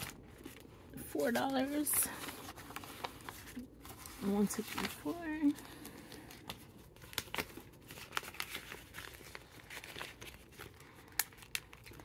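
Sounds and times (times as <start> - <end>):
plastic sleeves rustling and crinkling: 0.0 - 12.0.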